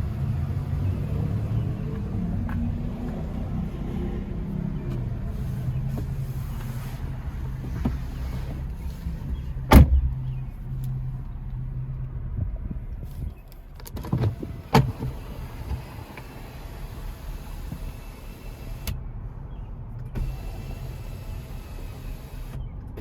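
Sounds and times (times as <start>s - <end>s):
vehicle running hum: 0.0s - 23.0s.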